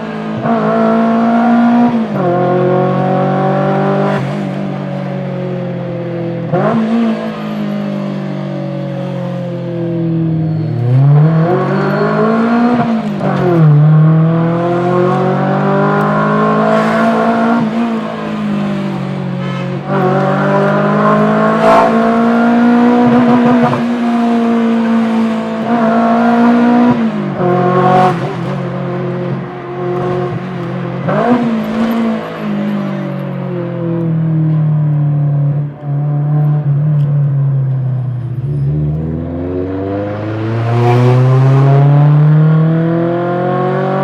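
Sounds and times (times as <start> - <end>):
car engine revving hard: 0.0 - 34.1, 38.6 - 44.0.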